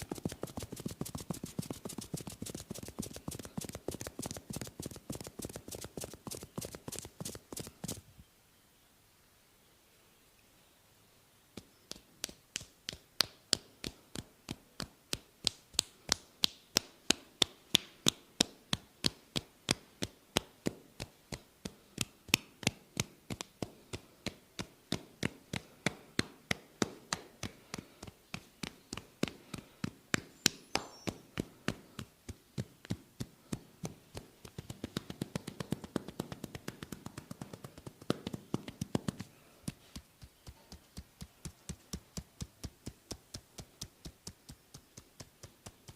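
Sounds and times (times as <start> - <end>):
massage tapping: 0.0 - 8.0, 11.6 - 45.9.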